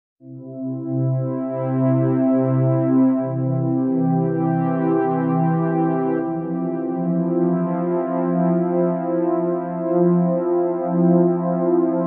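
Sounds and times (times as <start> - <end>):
slow ambient music: 0.3 - 12.0.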